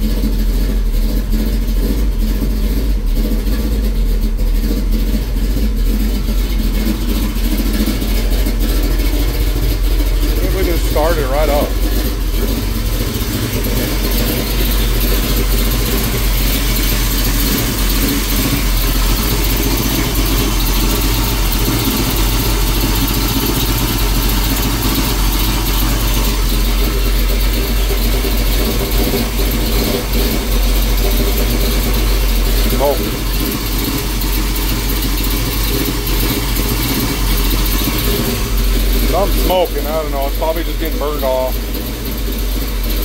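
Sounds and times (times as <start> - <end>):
truck engine idling: 0.0 - 43.0.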